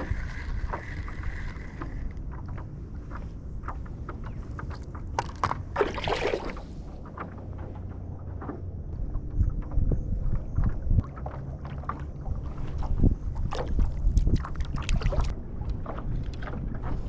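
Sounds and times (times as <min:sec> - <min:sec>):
water splashing around paddle board: 0:00.0 - 0:17.0
wind rumble on microphone: 0:00.0 - 0:17.0.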